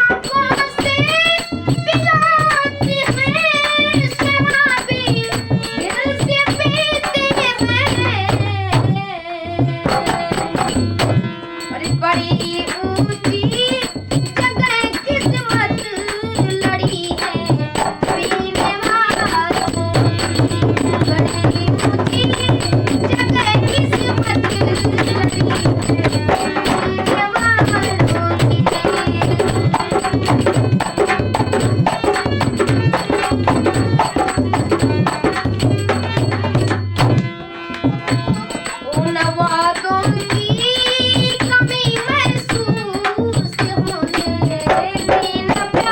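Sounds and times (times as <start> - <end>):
tabla beat: 0.0 - 45.9
vocal ghazal melody: 0.0 - 45.9.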